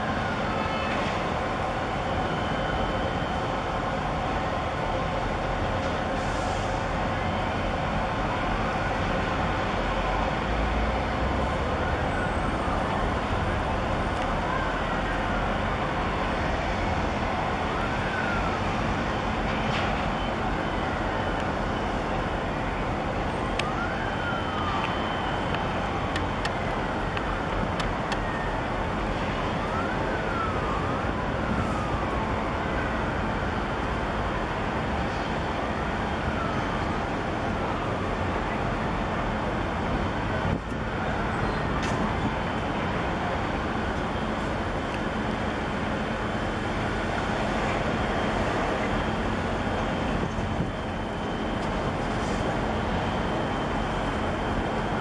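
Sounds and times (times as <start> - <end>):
siren wailing: 0.0 - 5.1, 7.2 - 39.0, 40.3 - 55.0
rushing background noise: 0.0 - 55.0.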